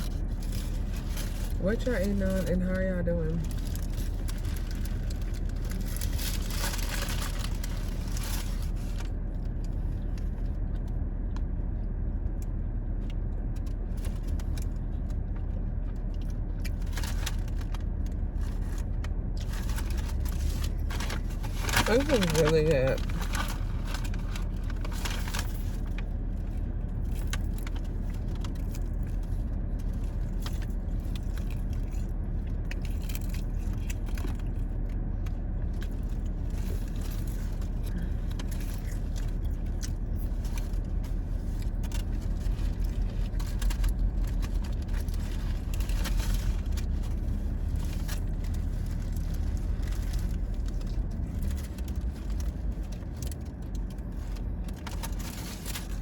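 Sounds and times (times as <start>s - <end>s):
food wrappers rustling: 0.0s - 2.7s, 3.3s - 10.9s, 13.6s - 56.0s
car idling: 0.0s - 56.0s.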